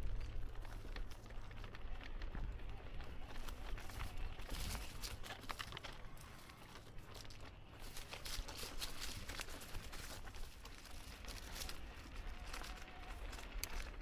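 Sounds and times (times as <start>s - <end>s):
footsteps crunching on trail: 0.0s - 14.0s.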